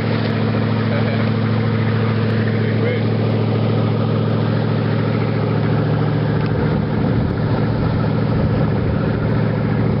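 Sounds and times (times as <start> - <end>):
motorboat engine running: 0.0 - 10.0
rushing water: 0.0 - 10.0
wind: 0.0 - 10.0.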